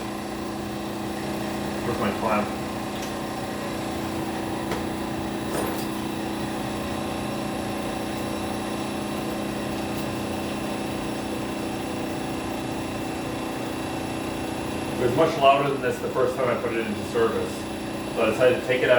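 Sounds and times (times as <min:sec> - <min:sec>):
vacuum pump humming: 0:00.0 - 0:18.9.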